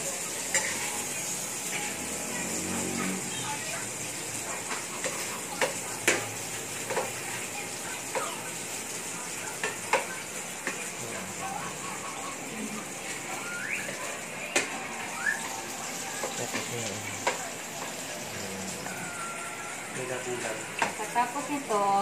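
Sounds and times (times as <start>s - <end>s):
food sizzling: 0.0s - 22.0s.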